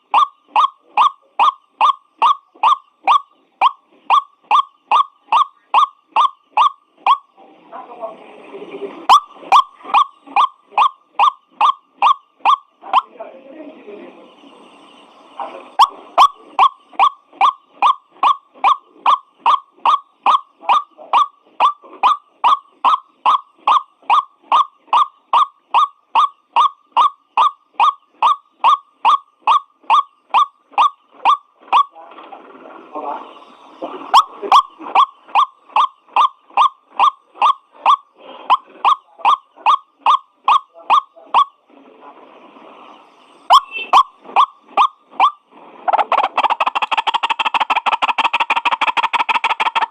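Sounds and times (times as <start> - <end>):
waterhen calling harsh notes: 0.0 - 7.4, 9.1 - 13.1, 15.8 - 31.9, 34.0 - 41.6, 43.5 - 49.9.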